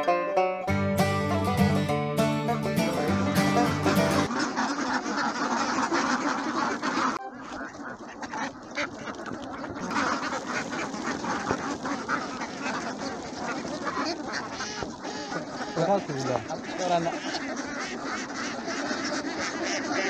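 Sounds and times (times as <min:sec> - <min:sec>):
flock of ducks quacking: 0:02.5 - 0:20.0.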